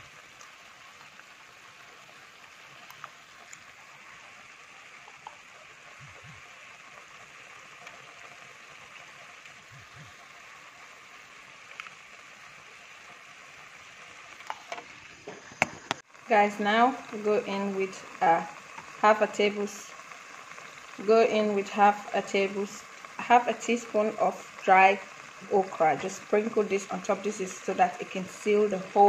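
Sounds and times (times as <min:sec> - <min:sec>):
stew simmering in a pot: 0:00.0 - 0:29.0.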